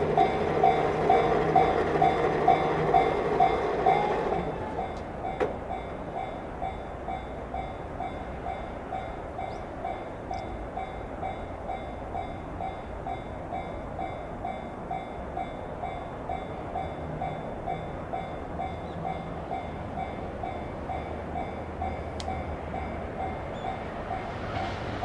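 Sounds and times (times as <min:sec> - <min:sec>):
level-crossing warning bell: 0:00.0 - 0:25.0
low train rumble: 0:00.0 - 0:25.0.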